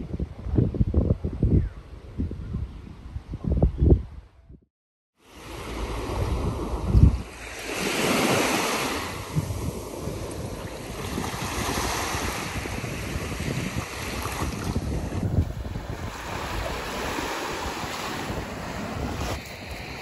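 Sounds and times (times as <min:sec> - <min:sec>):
wind buffeting microphone: 0:00.0 - 0:04.6, 0:05.4 - 0:20.0.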